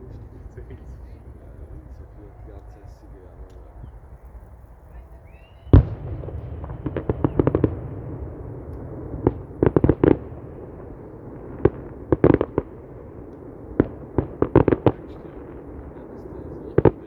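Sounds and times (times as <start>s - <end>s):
fireworks crackling bangs: 0.0s - 17.0s
steady low rumble: 0.0s - 17.0s.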